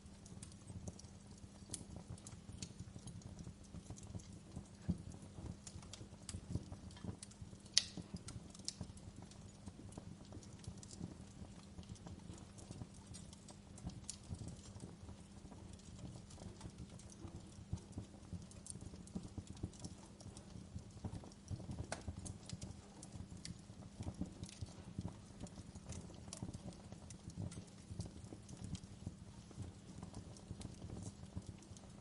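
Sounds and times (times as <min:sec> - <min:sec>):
fire crackling and popping: 0:00.0 - 0:32.0
low fire rumble: 0:00.0 - 0:32.0.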